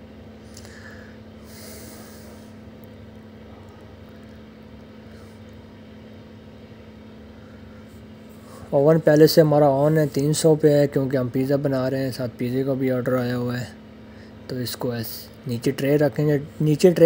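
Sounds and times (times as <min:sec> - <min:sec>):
kitchen equipment humming: 0:00.0 - 0:17.0.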